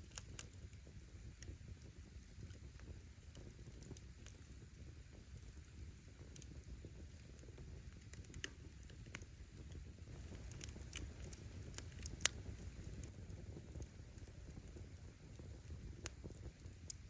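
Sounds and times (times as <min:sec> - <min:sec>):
campfire flames rumbling: 0:00.0 - 0:17.0
firewood crackling and popping: 0:00.0 - 0:17.0.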